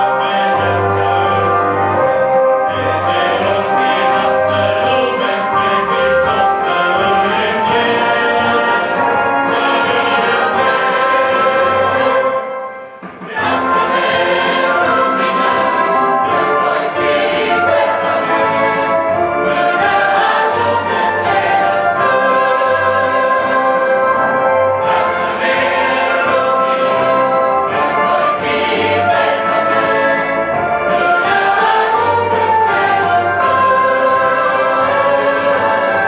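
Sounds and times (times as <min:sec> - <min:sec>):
mixed choir singing: 0:00.0 - 0:36.0.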